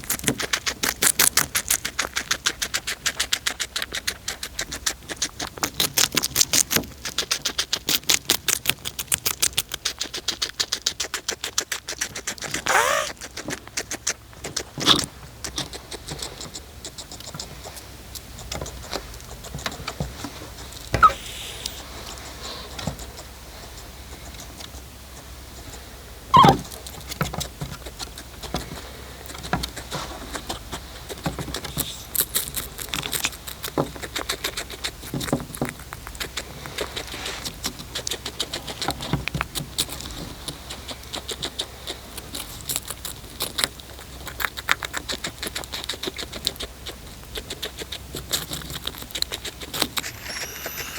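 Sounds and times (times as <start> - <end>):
cat chewing crunchy food: 0.0 - 25.9, 26.6 - 50.4.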